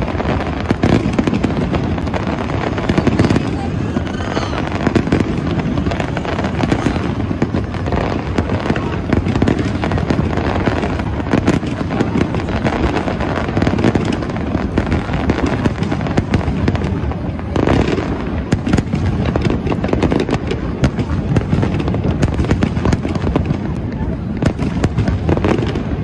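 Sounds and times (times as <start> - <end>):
fireworks bursts and bangs: 0.0 - 26.0.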